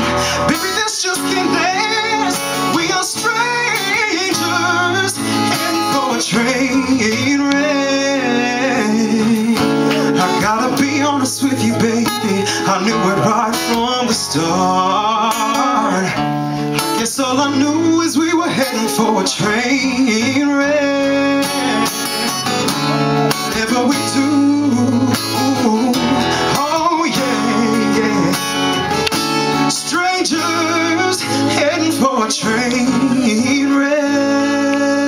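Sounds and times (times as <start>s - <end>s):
acoustic guitar strumming: 0.0s - 35.0s
man singing: 0.0s - 35.0s.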